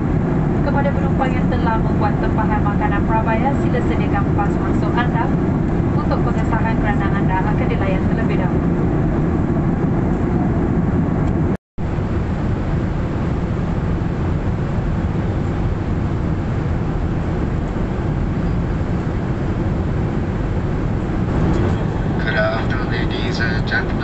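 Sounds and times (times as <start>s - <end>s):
airliner cabin roar: 0.0s - 24.0s.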